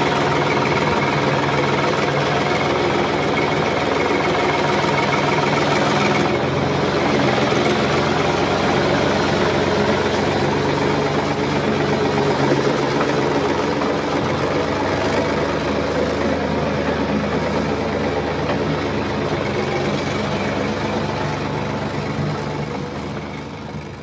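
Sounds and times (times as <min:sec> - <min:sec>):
farm machinery engine running: 0:00.0 - 0:24.0.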